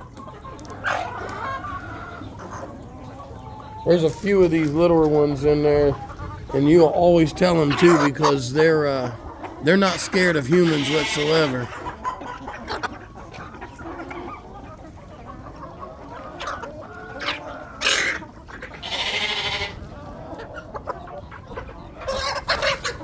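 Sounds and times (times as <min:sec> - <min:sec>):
chickens clucking and calling: 0:00.0 - 0:23.0.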